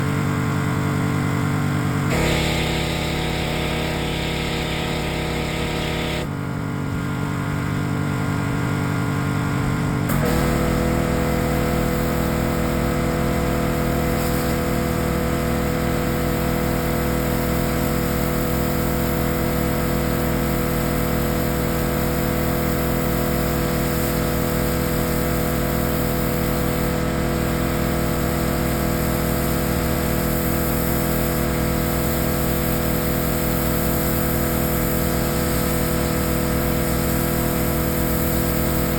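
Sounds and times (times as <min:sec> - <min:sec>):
pressure washer engine running: 0:01.1 - 0:06.4, 0:10.1 - 0:38.9.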